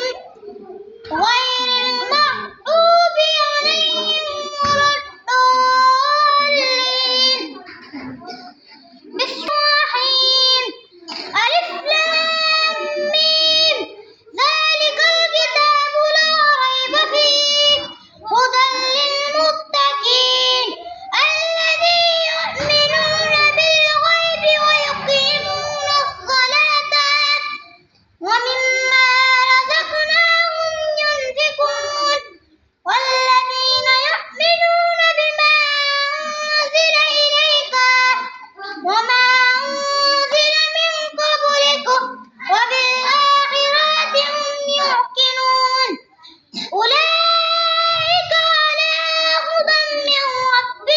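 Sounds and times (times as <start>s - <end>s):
child reciting melodically: 0.0s - 50.9s.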